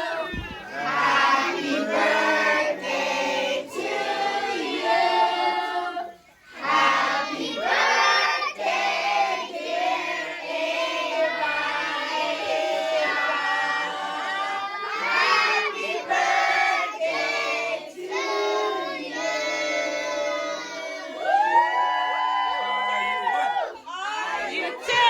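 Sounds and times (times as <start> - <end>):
crowd singing: 0.0 - 21.9, 24.0 - 25.0.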